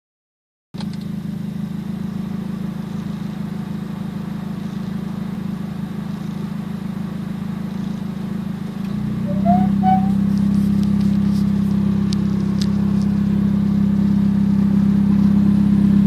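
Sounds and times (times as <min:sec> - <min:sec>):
car engine idling: 0:00.8 - 0:16.0.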